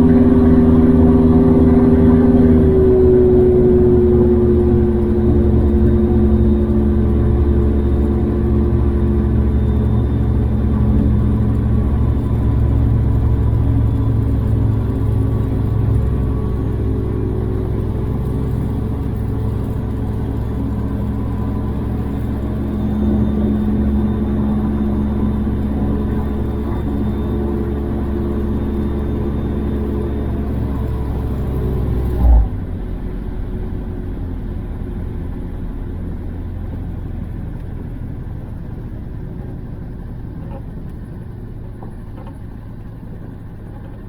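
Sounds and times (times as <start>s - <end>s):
gyrocopter engine droning: 0.0s - 44.0s.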